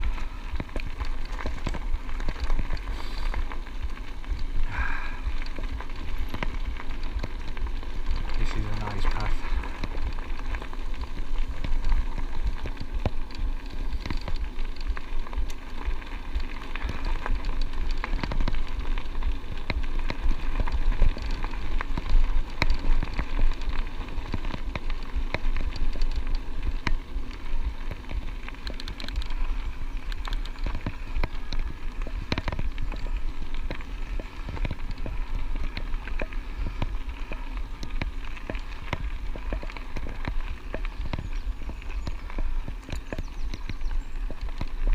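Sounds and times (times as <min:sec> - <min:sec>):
bike tyres crackling and rattling: 0:00.0 - 0:44.9
wind rumbling on microphone: 0:00.0 - 0:44.9.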